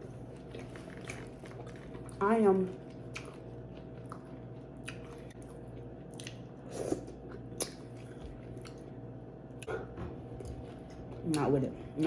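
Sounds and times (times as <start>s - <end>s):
person chewing food: 0.0s - 2.2s, 2.8s - 11.2s
faint steady hum: 0.0s - 12.0s.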